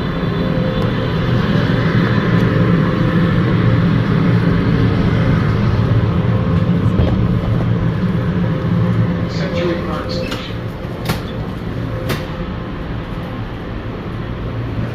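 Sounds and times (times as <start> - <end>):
light rail train rumbling: 0.0 - 14.9.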